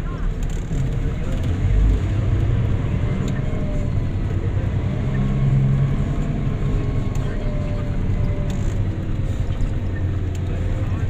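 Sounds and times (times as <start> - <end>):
diesel engine and hydraulics rumbling: 0.0 - 11.0.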